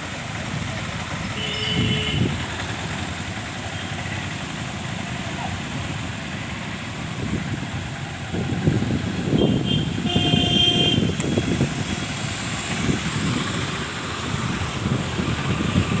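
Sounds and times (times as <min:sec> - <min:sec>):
passing vehicles rumbling: 0:00.0 - 0:16.0.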